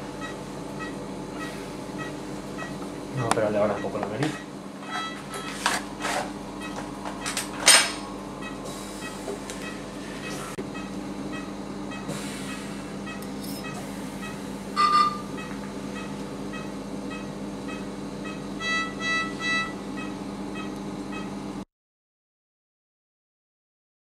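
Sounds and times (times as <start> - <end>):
equipment hum: 0.0 - 21.6
patient monitor beeping: 0.2 - 5.6, 6.5 - 21.4.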